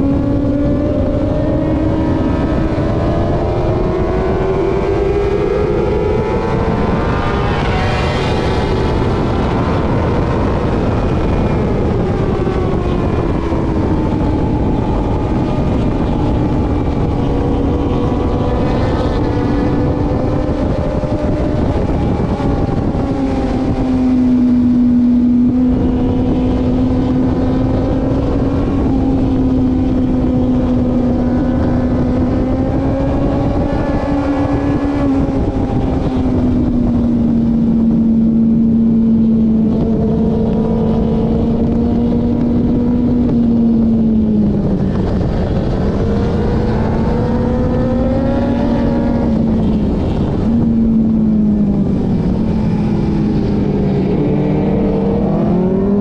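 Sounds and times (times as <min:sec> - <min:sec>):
motorcycle engine at high revs: 0:00.0 - 0:56.0
wind rushing: 0:00.0 - 0:56.0.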